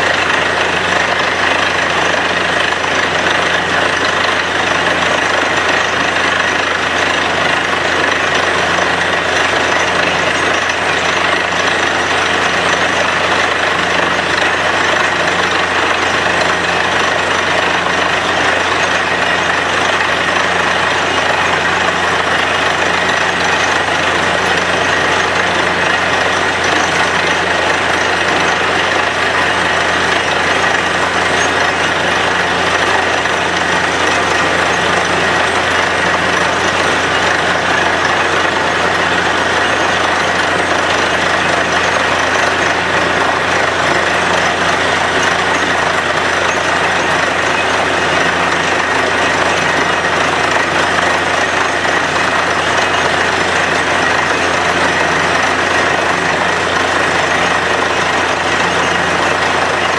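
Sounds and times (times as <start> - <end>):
drilling rig engine drone: 0.0 - 59.9.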